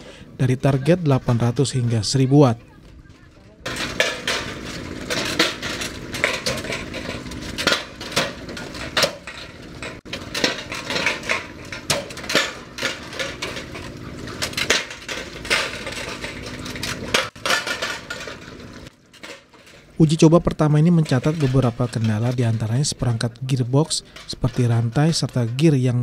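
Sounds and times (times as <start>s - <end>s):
paddle wheel metallic clanking: 0.0s - 26.0s
steady low hum: 0.0s - 26.0s.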